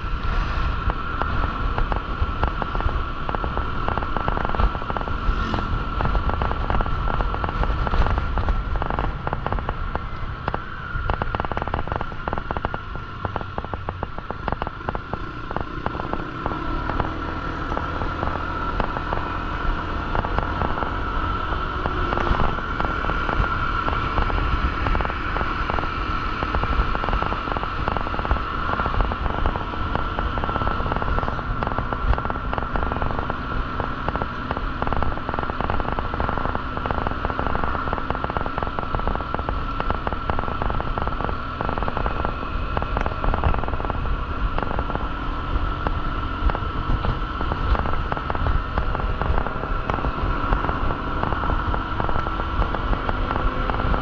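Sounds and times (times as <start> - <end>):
high-pitched whine: 0.0 - 54.0
motorcycle engine rumble: 0.0 - 54.0.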